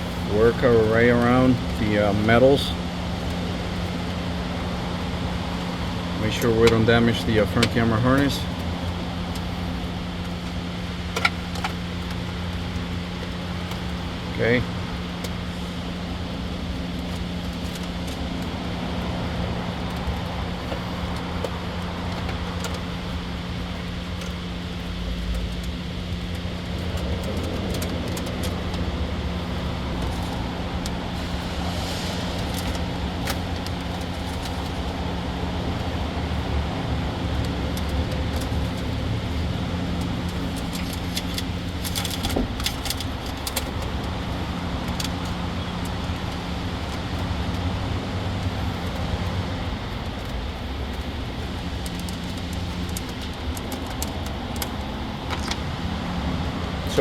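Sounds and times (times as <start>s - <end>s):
machinery humming: 0.0s - 57.0s
wiring harness clicks and rattles: 0.1s - 16.0s, 16.7s - 57.0s.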